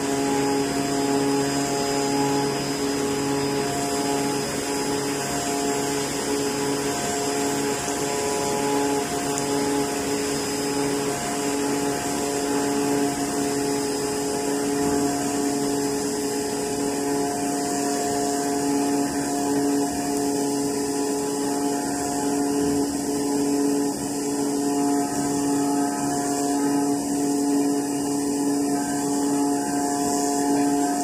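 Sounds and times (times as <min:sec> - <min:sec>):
cutting machine humming: 0:00.0 - 0:31.0.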